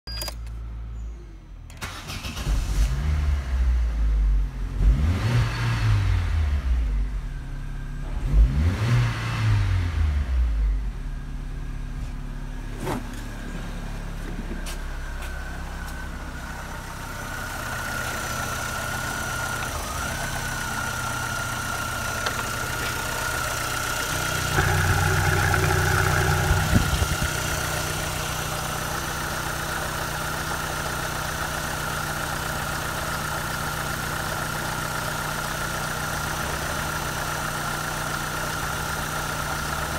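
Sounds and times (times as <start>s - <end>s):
car engine revving and idling: 1.8s - 39.9s.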